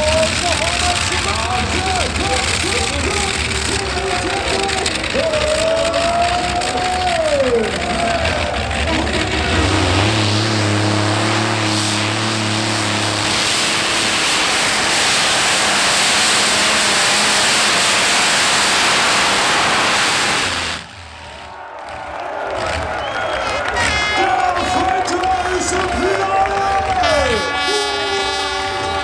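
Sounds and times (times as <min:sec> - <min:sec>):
tractor engines under load: 0:00.0 - 0:29.0.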